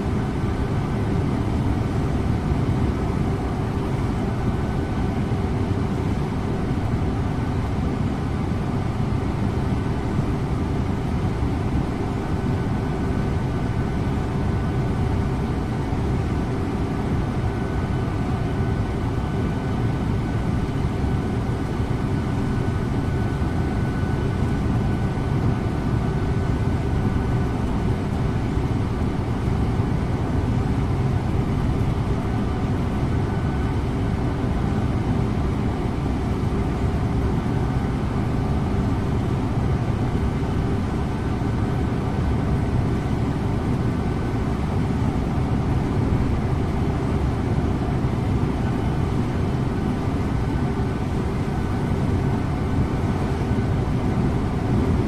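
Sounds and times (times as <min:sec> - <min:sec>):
faint steady whine: 0:00.0 - 0:55.0.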